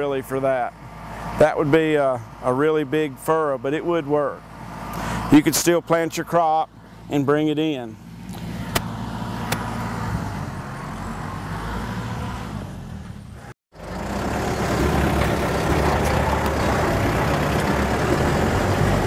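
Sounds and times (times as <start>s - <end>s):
tractor engine running: 0.0s - 11.1s, 12.8s - 19.0s.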